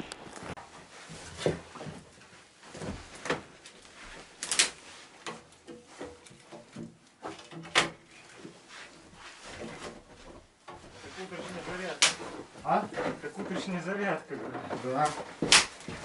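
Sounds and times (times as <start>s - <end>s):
quiet rustling: 0.0s - 16.0s.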